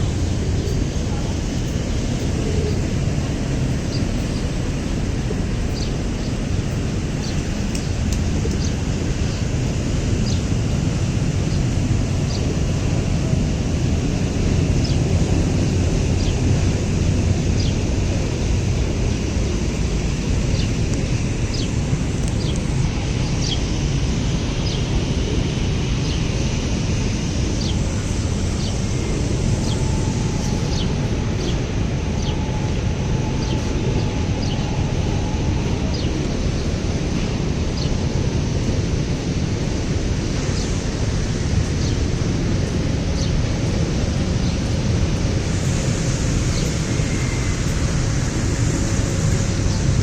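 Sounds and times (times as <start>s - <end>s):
wind buffeting the microphone: 0.0s - 50.0s.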